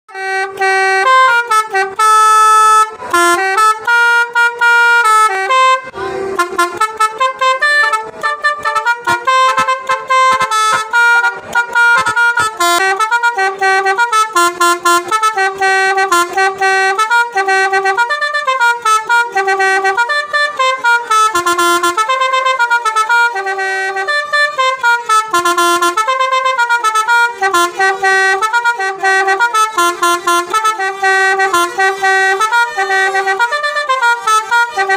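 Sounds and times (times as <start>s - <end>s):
multi-trumpet bus air horn tunes: 0.1s - 34.9s.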